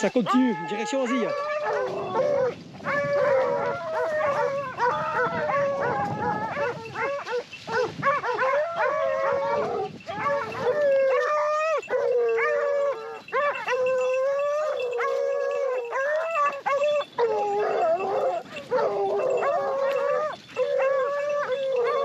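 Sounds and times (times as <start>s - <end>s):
hounds baying: 0.0s - 22.0s.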